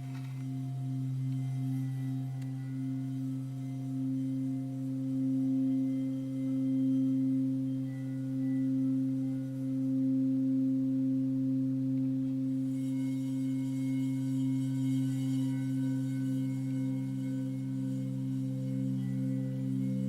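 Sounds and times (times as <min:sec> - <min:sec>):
singing bowls ringing: 0:00.0 - 0:20.0.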